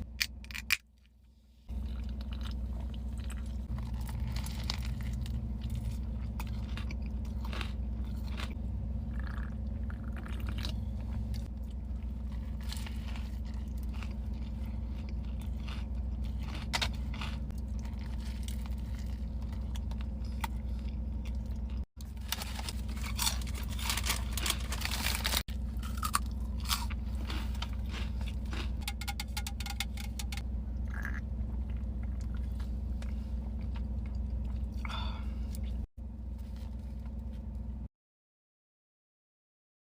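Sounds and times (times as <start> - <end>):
person chewing and crunching food: 0.0 - 37.7.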